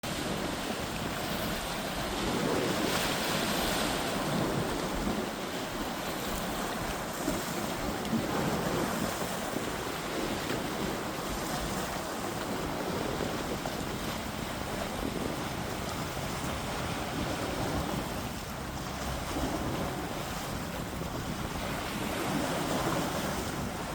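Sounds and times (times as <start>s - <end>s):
waves washing against rocks: 0.0s - 23.9s
wind buffeting microphone: 0.0s - 23.9s.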